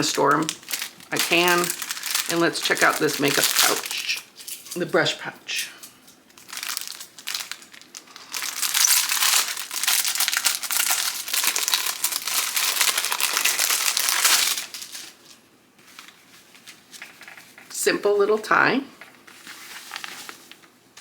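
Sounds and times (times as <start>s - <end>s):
packaging crinkling and rustling: 0.0s - 4.8s, 6.1s - 17.8s, 19.0s - 21.0s.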